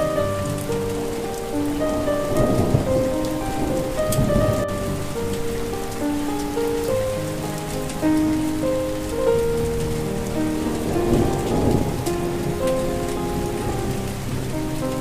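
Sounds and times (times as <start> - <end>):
soft melody of held notes: 0.0 - 15.0
steady rain: 0.0 - 15.0
thunder rumble: 0.0 - 15.0.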